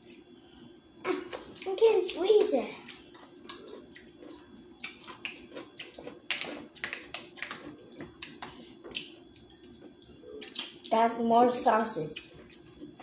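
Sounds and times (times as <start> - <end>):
faint steady hum: 0.0 - 13.0
chewing and eating sounds: 1.2 - 13.0.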